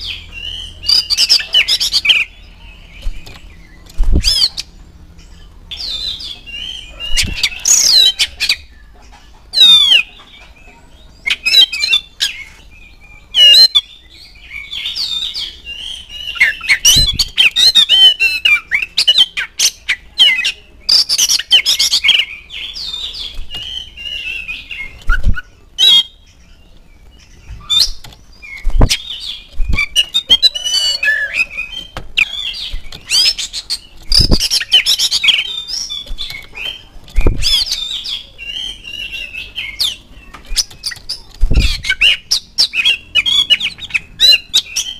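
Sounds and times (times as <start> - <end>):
bird singing whistles and trills: 0.0 - 4.8, 9.5 - 26.6, 27.2 - 44.9.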